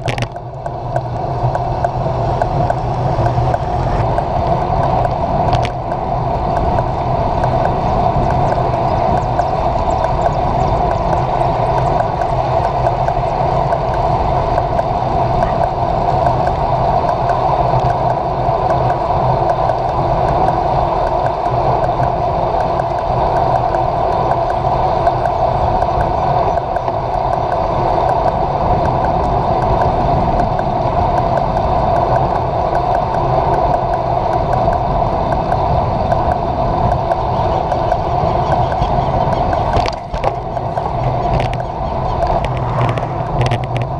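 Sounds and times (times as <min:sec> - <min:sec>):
bicycle tyre noise on asphalt: 0:00.0 - 0:43.9
wind rushing: 0:00.0 - 0:43.9.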